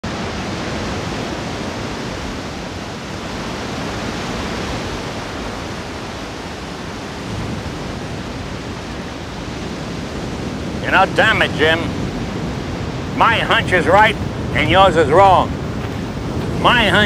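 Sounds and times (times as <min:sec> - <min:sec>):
ocean surf on a sandy beach: 0:00.0 - 0:17.0.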